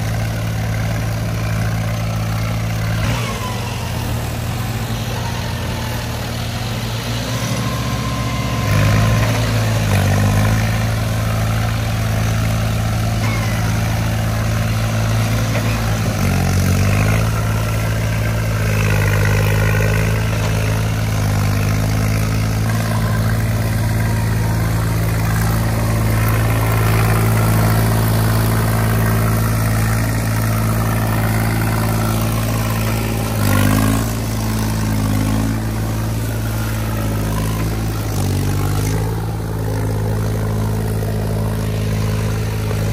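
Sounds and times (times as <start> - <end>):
tractor engines revving: 0.0 - 42.9.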